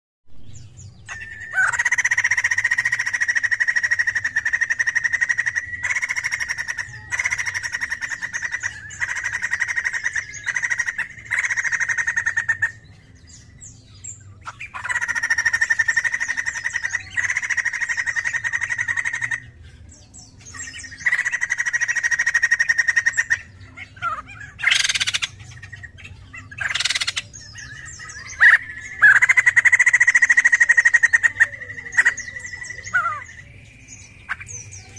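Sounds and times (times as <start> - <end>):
bird rattling song: 0.9 - 12.9, 14.1 - 19.4, 20.4 - 34.9.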